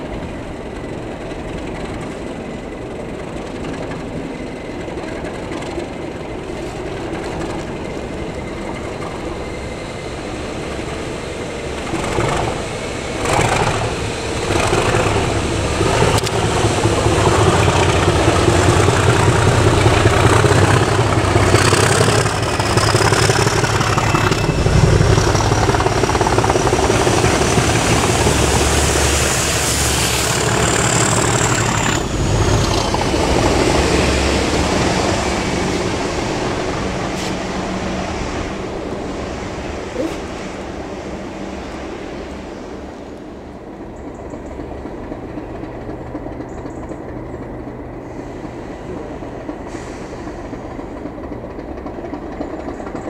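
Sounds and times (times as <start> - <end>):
diesel locomotive engines under load: 0.0 - 53.0
train clatter: 0.0 - 53.0.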